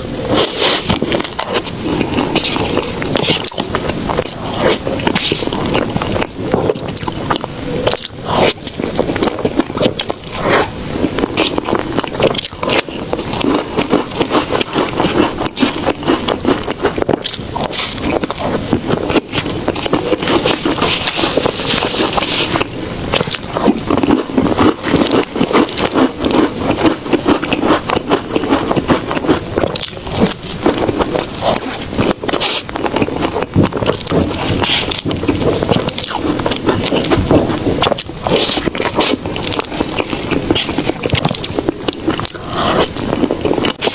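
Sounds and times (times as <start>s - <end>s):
chewing mouth clicks and smacks: 0.3s - 43.9s.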